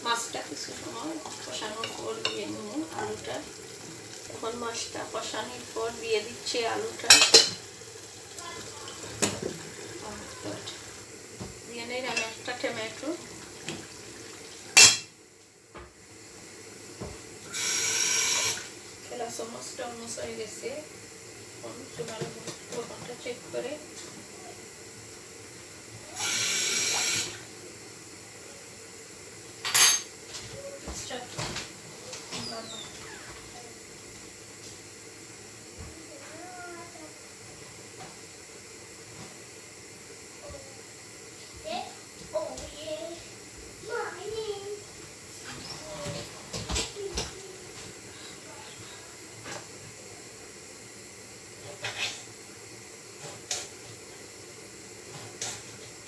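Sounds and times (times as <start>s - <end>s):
pots hissing on gas hob: 0.0s - 56.0s
water gushing from tap: 0.0s - 56.0s.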